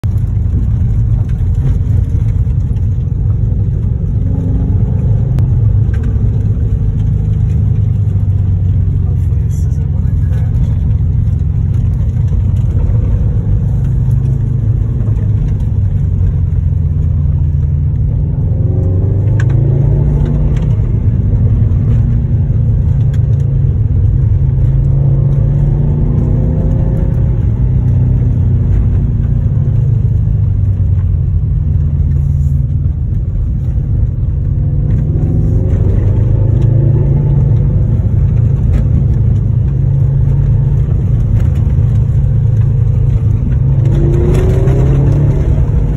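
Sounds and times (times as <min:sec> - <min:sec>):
car engine rumble from inside cabin: 0:00.0 - 0:45.9.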